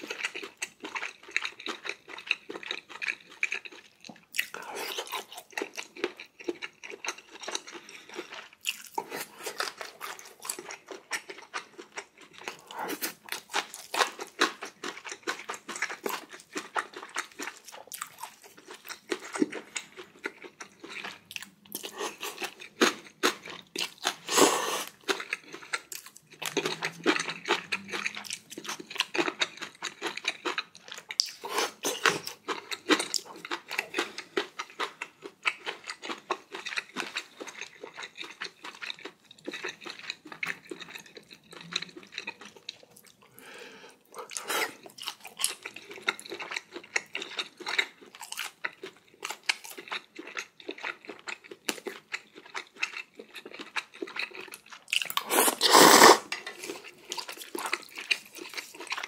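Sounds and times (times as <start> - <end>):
person chewing and crunching food: 0.0 - 59.0.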